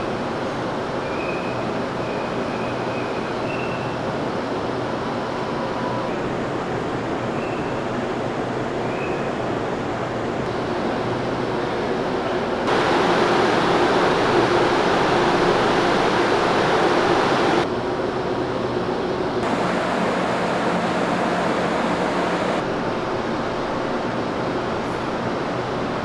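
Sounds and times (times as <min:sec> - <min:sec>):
machinery rush and hum: 0:04.0 - 0:26.0.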